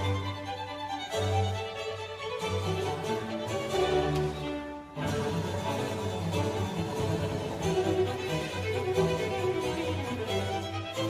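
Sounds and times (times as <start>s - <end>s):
bowed strings: 0.0s - 11.0s.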